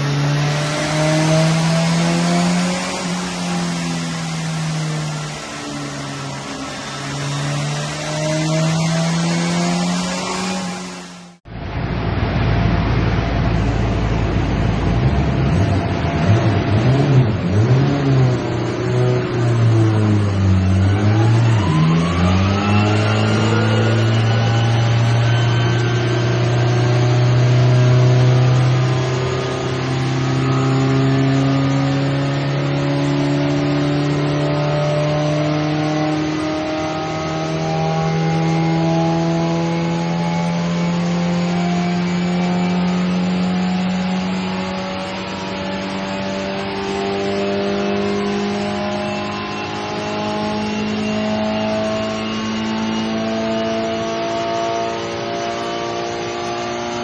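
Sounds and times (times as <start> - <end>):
racing car engine revving: 0.0 - 11.4, 12.2 - 57.0.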